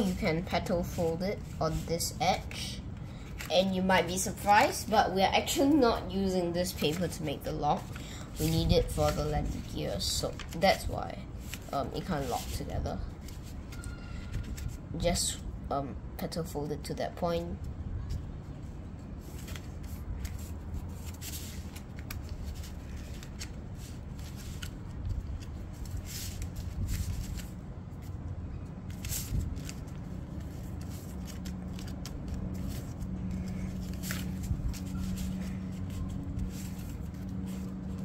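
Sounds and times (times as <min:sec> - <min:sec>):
paper crinkling and folding: 0:00.0 - 0:15.0, 0:18.0 - 0:38.0
steady low hum: 0:00.0 - 0:38.0.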